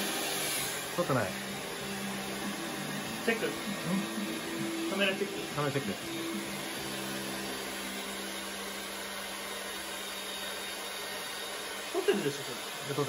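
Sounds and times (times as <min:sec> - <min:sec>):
hair dryer blowing air: 0:00.0 - 0:13.0.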